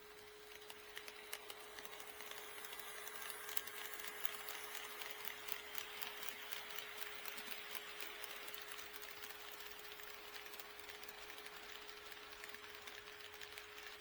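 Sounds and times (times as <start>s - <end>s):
model train wheels clicking: 0.0s - 14.0s.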